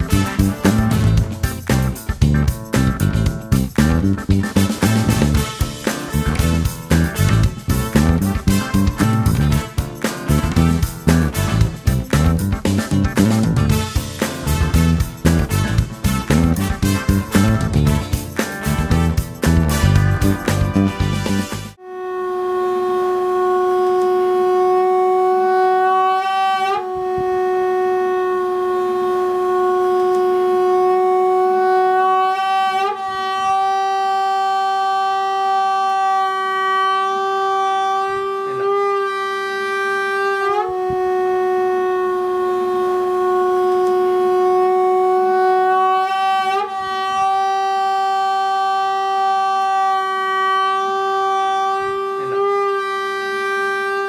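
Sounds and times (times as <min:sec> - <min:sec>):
balloon straw horn buzzing: 0:00.0 - 0:54.0.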